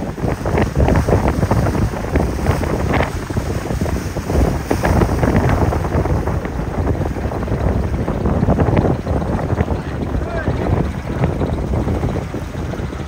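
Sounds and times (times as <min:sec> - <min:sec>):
motor yacht running: 0:00.0 - 0:13.0
surf washing: 0:00.0 - 0:13.0
wind buffeting microphone: 0:00.0 - 0:13.0.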